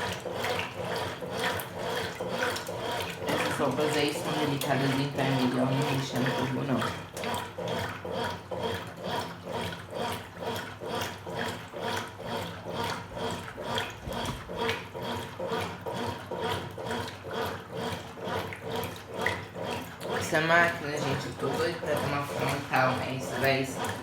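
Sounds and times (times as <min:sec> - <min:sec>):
washing machine agitating: 0:00.0 - 0:24.0.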